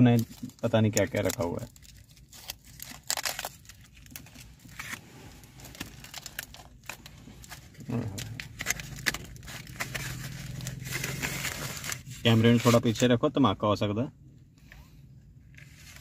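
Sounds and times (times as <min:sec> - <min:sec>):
foil crinkling: 0:00.0 - 0:12.8.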